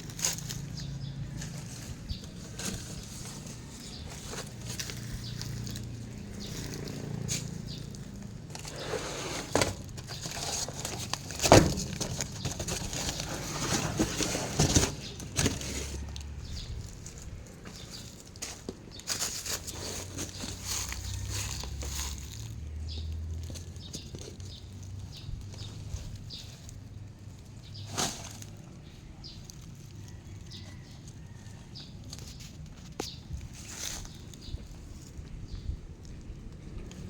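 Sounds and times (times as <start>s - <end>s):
rustling and handling noises: 0.0s - 37.0s.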